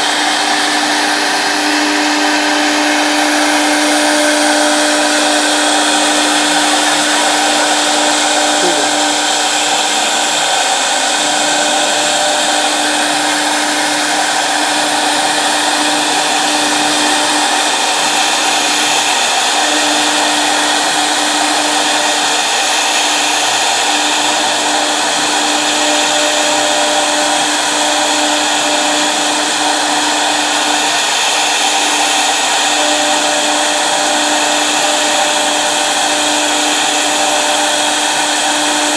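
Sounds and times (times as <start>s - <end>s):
router spindle whine and hiss: 0.0s - 38.9s.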